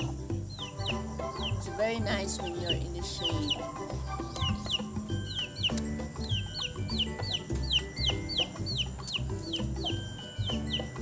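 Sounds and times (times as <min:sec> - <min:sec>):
background music with beat: 0:00.0 - 0:11.0
hens clucking: 0:00.0 - 0:11.0
high falling chirp: 0:00.0 - 0:11.0.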